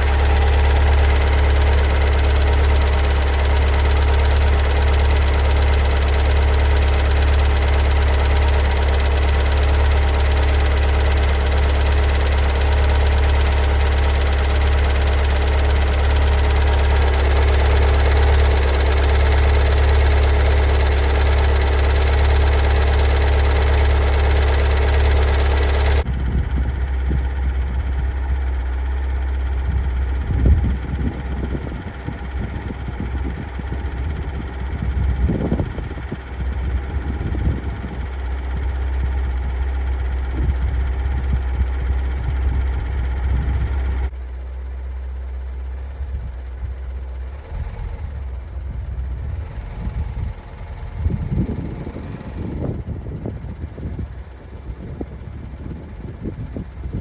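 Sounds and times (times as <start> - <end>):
diesel engine idling with knocking: 0.0 - 57.0
low rumbling: 0.0 - 57.0.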